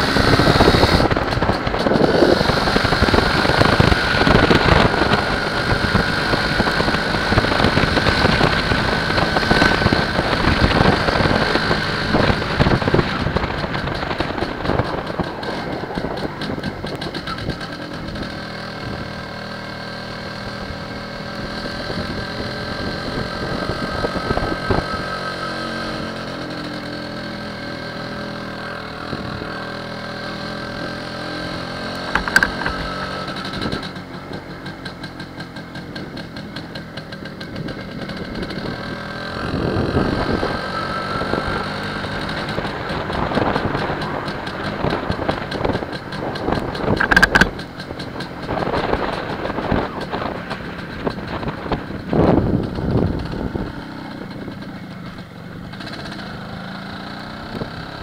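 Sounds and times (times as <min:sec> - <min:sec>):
wind rushing over microphone: 0:00.0 - 0:26.2, 0:28.8 - 0:34.4, 0:35.9 - 0:56.2
two-stroke motorcycle engine running: 0:00.0 - 0:58.0.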